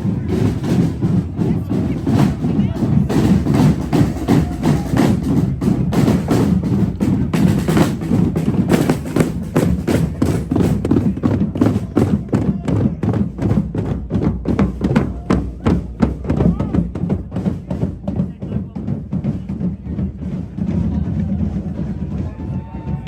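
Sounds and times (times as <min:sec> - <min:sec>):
music with driving drum beat: 0:00.0 - 0:23.0.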